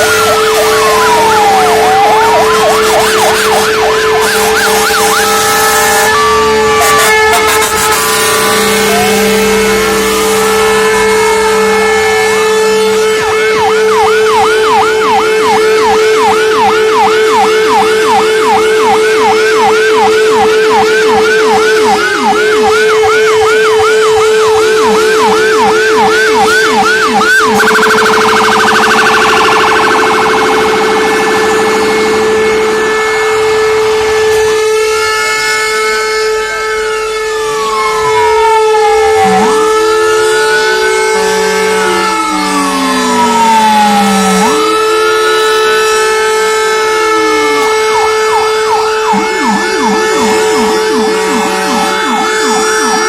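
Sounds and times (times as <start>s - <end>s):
fire engine sirens yelping and wailing: 0.0s - 53.0s
steady held siren tone: 0.0s - 53.0s.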